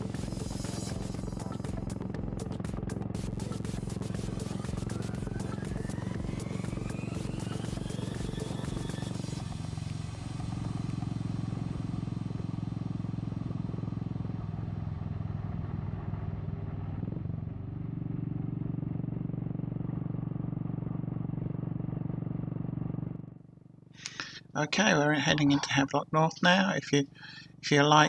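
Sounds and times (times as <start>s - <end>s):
motorcycle engine running: 0.0s - 24.6s.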